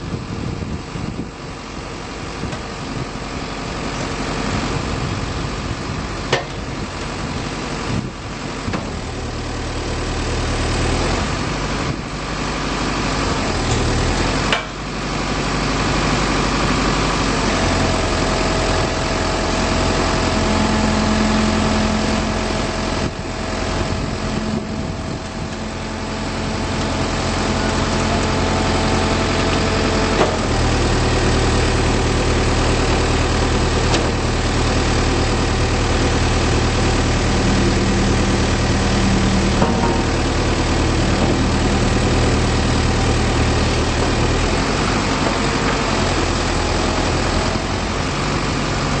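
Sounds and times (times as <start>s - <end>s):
diesel engine running: 0.0s - 49.0s
steady whine: 0.0s - 49.0s.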